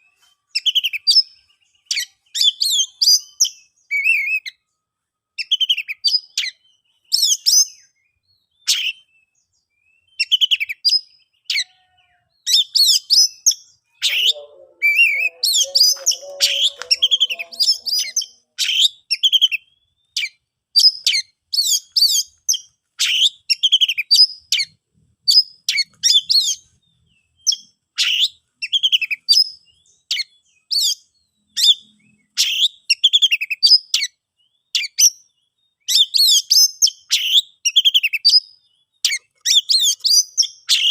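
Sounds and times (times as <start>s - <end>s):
bird singing chirps and whistles: 0.0s - 4.7s, 5.4s - 11.7s, 12.4s - 24.7s, 25.3s - 40.9s.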